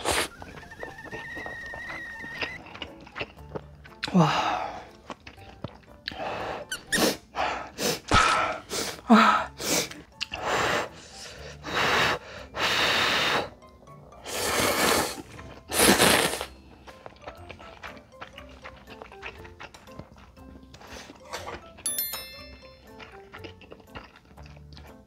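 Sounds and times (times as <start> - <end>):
noodles being slurped: 0.0 - 21.8.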